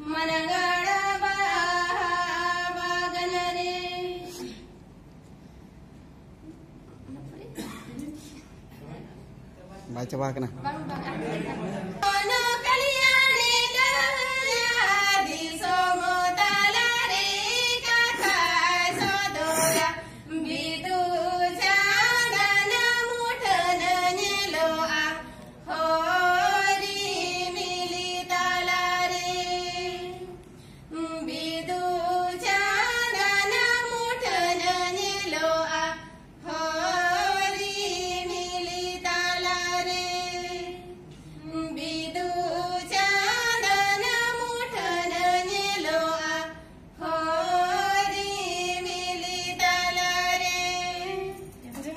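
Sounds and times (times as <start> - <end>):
women singing unaccompanied: 0.0 - 4.6, 11.8 - 51.9.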